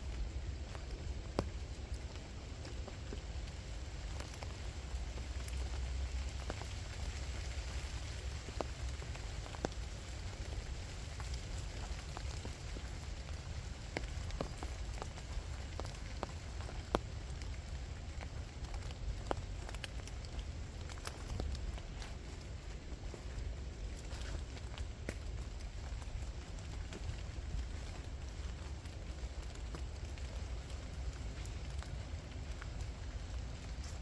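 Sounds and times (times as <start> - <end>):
raindrops ticking close by: 0.0 - 34.0
steady rain falling: 0.0 - 34.0.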